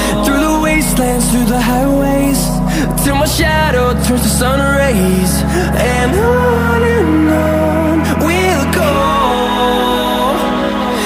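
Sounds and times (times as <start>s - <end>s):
song with bass: 0.0s - 11.0s.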